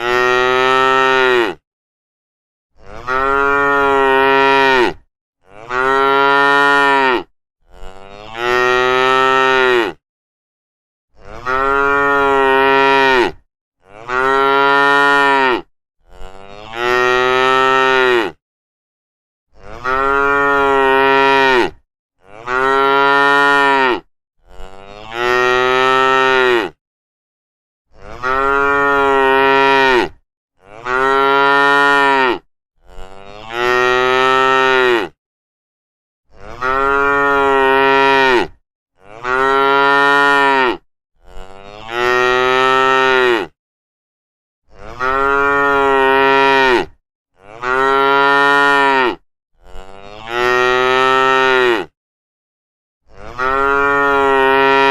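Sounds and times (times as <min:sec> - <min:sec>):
cows mooing: 0:00.0 - 0:01.6, 0:02.8 - 0:10.0, 0:11.2 - 0:18.4, 0:19.6 - 0:26.8, 0:28.0 - 0:35.2, 0:36.4 - 0:43.5, 0:44.8 - 0:51.9, 0:53.2 - 0:54.9.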